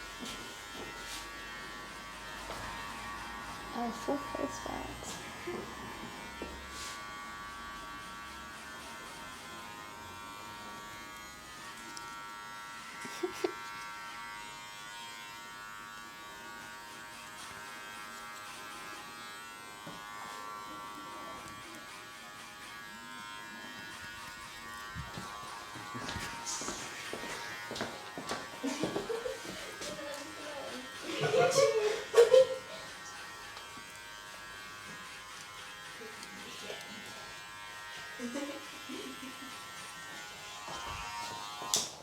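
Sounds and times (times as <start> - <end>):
electric hair trimmer buzzing: 0.0 - 42.0.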